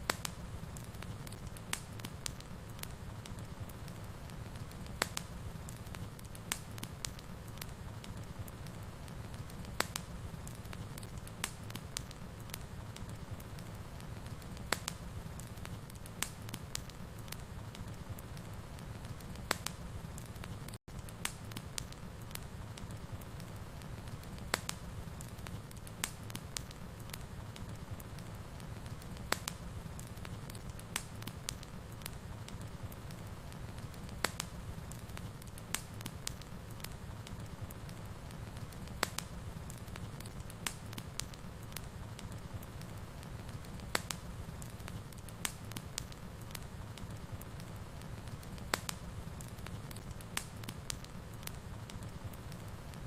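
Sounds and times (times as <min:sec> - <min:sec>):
low rumble of burning: 0:00.0 - 0:53.0
wood fire pops and snaps: 0:00.0 - 0:53.0.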